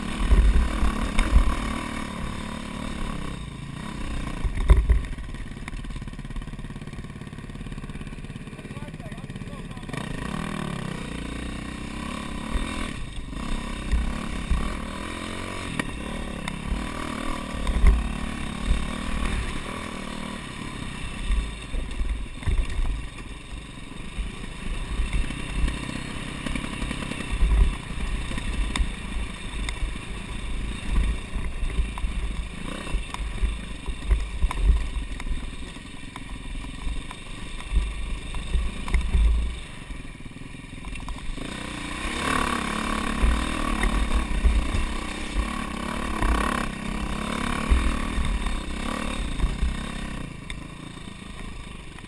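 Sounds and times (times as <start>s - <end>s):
dirt bike engine revving: 0.0s - 40.0s, 40.9s - 51.9s.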